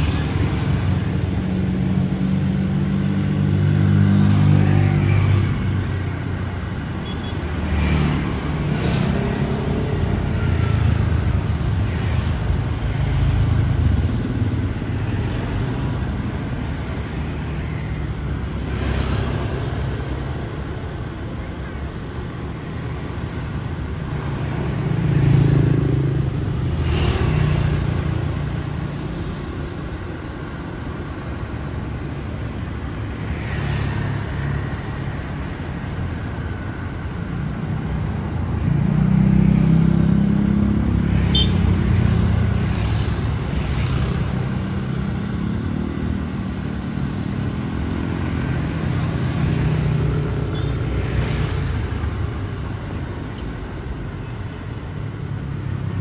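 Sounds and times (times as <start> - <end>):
cars and motorbikes passing: 0.0 - 56.0.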